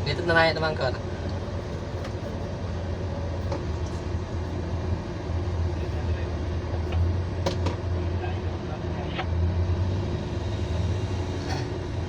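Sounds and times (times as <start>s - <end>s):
excavator diesel engine under load: 0.0s - 12.0s.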